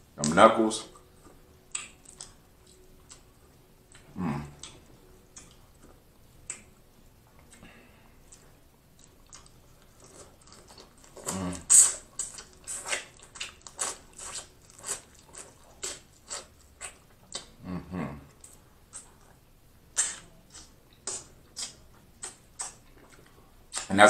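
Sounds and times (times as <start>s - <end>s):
wet chewing and smacking: 0.2s - 7.6s, 8.2s - 17.6s, 18.3s - 24.0s.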